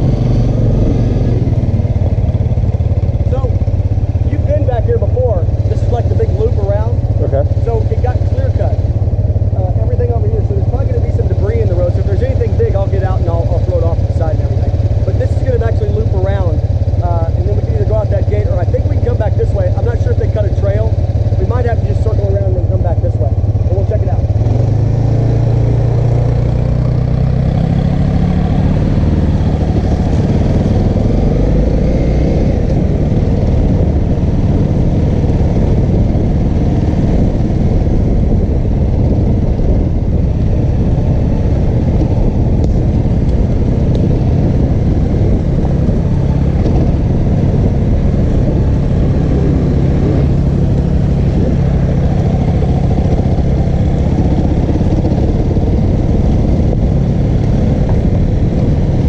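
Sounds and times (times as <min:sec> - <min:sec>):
bike rumble and clatter: 0:00.0 - 0:59.0
motorbike engine running: 0:00.0 - 0:59.0.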